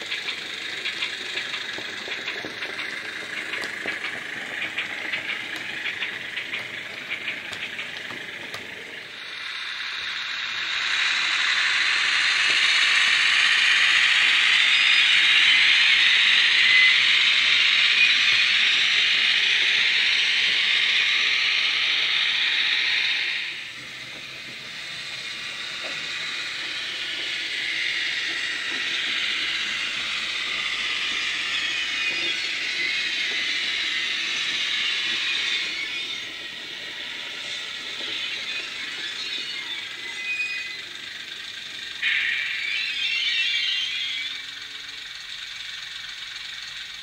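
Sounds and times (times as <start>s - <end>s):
loud steady hiss: 0.0s - 47.0s.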